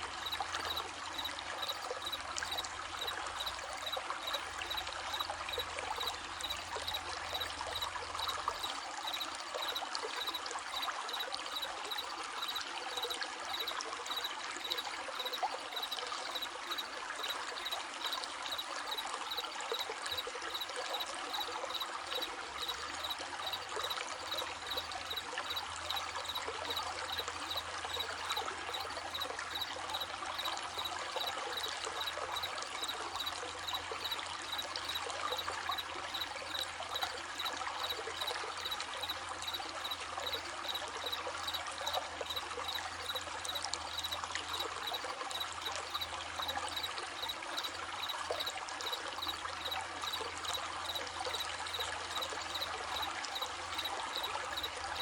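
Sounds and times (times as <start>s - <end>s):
crickets chirping: 0.0s - 55.0s
stream babbling: 0.0s - 55.0s.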